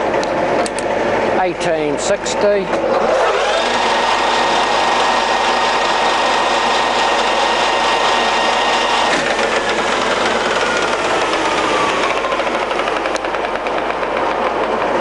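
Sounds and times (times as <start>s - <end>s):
lathe gear whine: 0.0s - 15.0s.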